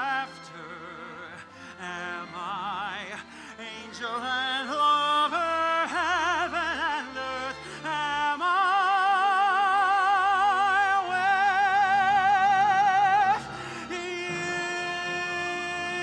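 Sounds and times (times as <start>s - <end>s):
symphony orchestra: 0.0s - 16.0s
tenor voice singing: 0.0s - 16.0s.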